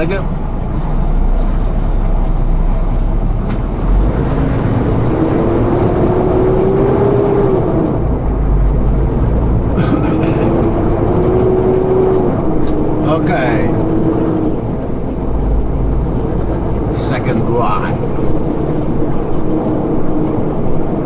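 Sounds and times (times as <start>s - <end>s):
truck diesel engine pulling away: 0.0s - 21.0s.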